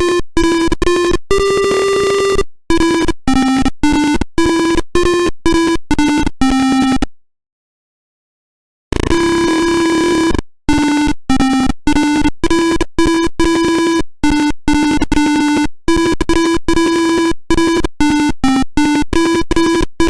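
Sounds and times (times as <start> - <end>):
piezo buzzer playing melody: 0.0 - 7.0, 8.9 - 20.0.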